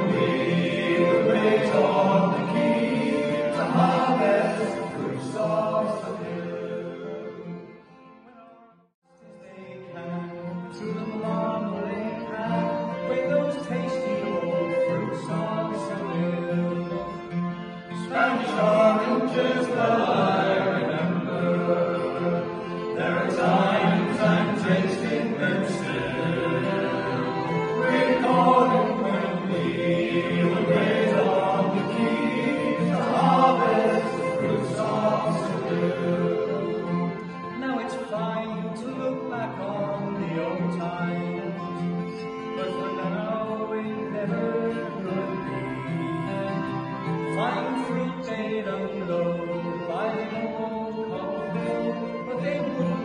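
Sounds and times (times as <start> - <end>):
men singing in harmony: 0.0 - 7.6, 9.4 - 17.1, 17.9 - 41.7, 42.4 - 53.0
acoustic guitar: 0.0 - 53.0
fiddle: 0.0 - 53.0.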